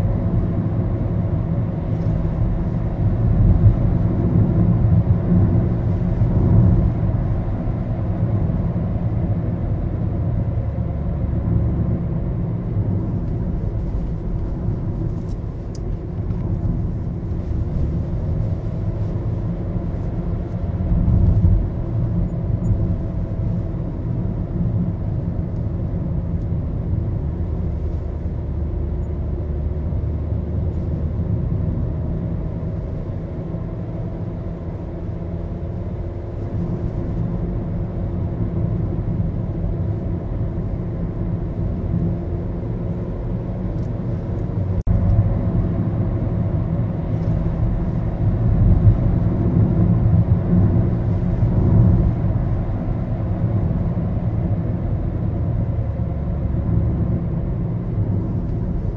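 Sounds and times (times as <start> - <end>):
car engine hum: 0.0 - 58.9
road rumble: 0.0 - 58.9.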